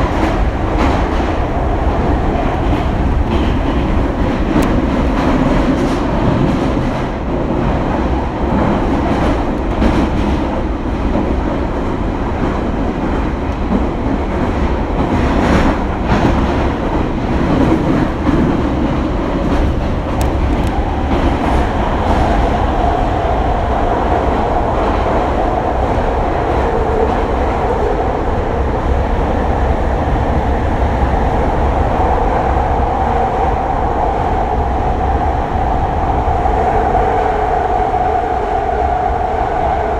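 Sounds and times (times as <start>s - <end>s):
train wheels rumbling in tunnel: 0.0s - 39.9s.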